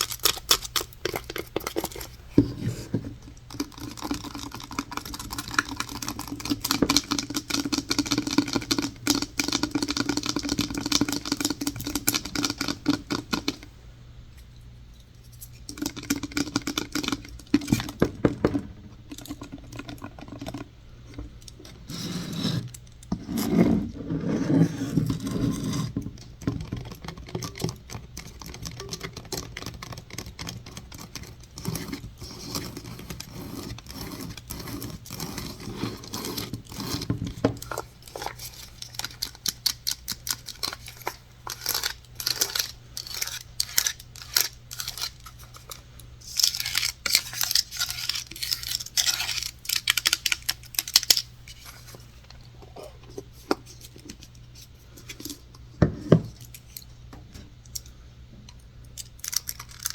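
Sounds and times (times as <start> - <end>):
scratching on hard objects: 0.0 - 13.7, 15.2 - 56.8.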